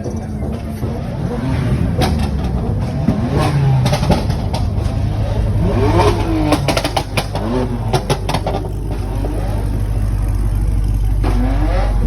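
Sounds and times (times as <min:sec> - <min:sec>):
car engines revving: 0:00.0 - 0:12.0
low engine rumble: 0:00.0 - 0:12.0.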